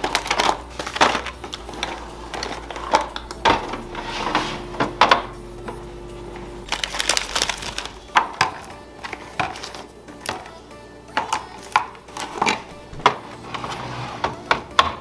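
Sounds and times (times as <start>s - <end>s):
plastic containers clattering: 0.0s - 15.0s
soft background music: 0.0s - 15.0s.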